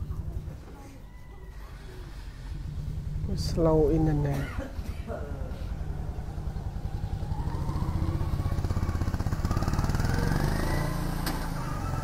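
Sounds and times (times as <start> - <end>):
motorcycle engine passing by: 1.7 - 12.0.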